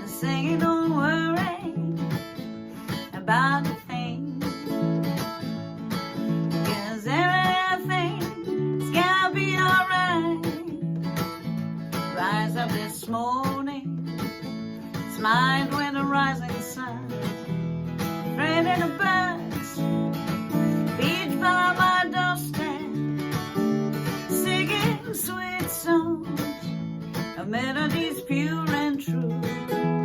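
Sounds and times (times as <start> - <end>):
woman singing: 0.0 - 17.5, 18.1 - 30.0
strummed acoustic guitar: 0.0 - 30.0.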